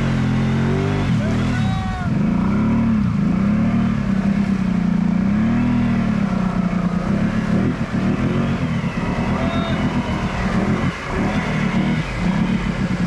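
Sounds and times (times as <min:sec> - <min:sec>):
atv engine revving: 0:00.0 - 0:13.0
vehicle churning through muddy water: 0:00.0 - 0:13.0.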